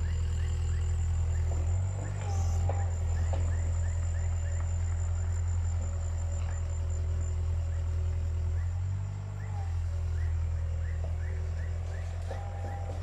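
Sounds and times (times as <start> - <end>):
excavator diesel engine running: 0.0 - 13.0
insect high whine: 0.0 - 13.0
insects chirping: 0.0 - 13.0.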